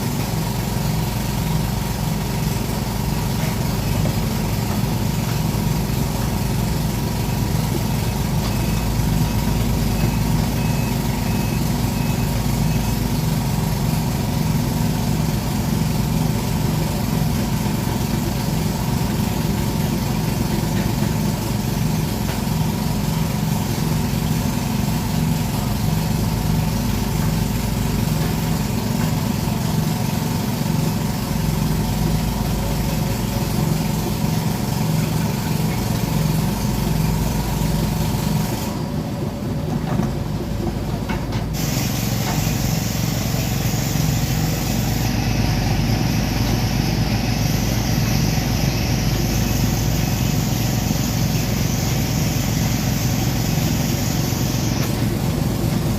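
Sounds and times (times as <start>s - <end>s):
excavator diesel engine idling: 0.0s - 55.9s.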